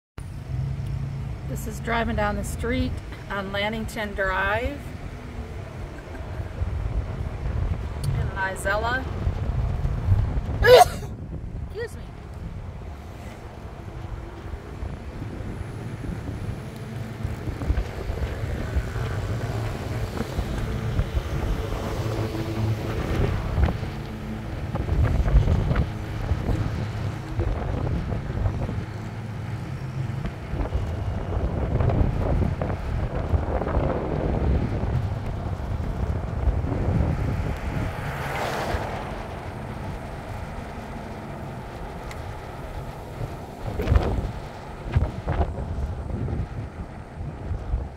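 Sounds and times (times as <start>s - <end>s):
car engine and road rumble: 0.2s - 47.9s
wind gusting over microphone: 0.2s - 47.9s.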